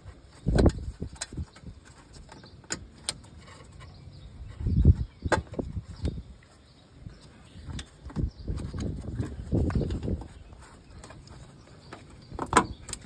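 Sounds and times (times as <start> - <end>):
gloved hands handling plastic and metal: 0.0 - 13.0.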